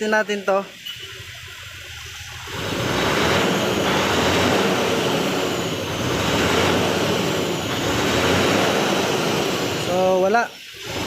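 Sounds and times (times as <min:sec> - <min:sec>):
diesel engine revving high: 0:02.1 - 0:11.0.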